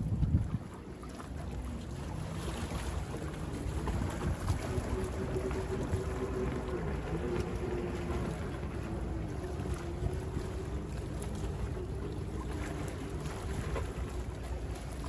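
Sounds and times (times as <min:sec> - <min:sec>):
distant motorboat engine drone: 0:00.0 - 0:15.0
small waves lapping: 0:00.0 - 0:15.0
wind: 0:00.0 - 0:15.0.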